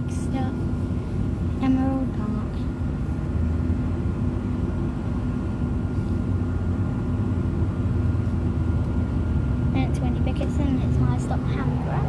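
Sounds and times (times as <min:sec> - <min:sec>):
bus engine and road drone: 0:00.0 - 0:12.0.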